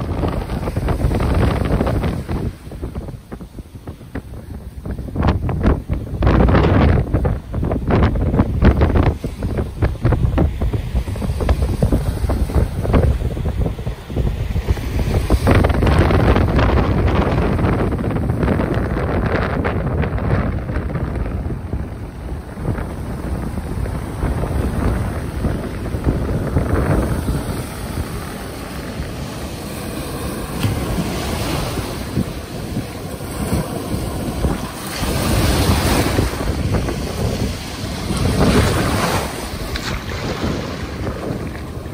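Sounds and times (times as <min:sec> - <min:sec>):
ocean waves: 0:00.0 - 0:41.9
wind buffeting microphone: 0:00.0 - 0:41.9.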